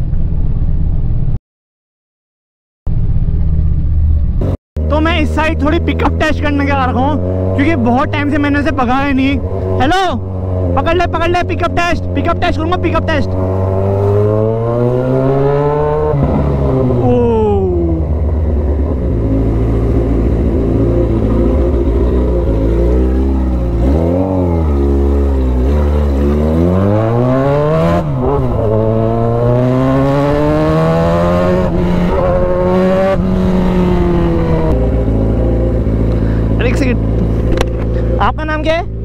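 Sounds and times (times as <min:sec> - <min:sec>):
motorcycle engine accelerating: 0:02.9 - 0:39.0.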